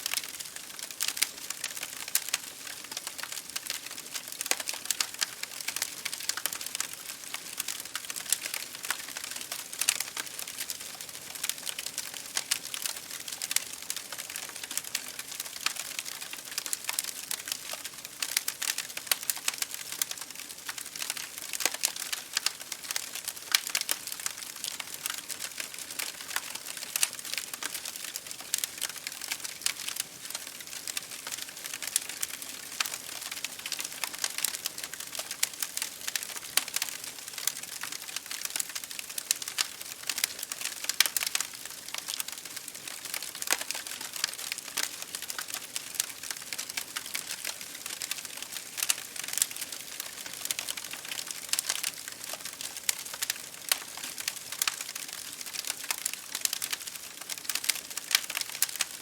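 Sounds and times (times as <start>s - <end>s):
rain pattering on window glass: 0.0s - 59.0s
wood fire crackling: 0.0s - 59.0s.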